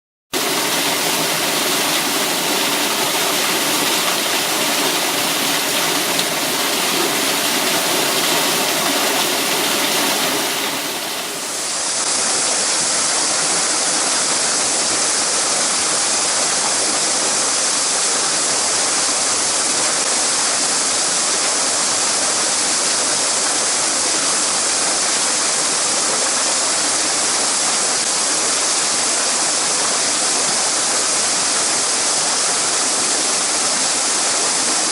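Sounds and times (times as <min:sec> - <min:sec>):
stream rushing over rocks: 0:00.4 - 0:34.9.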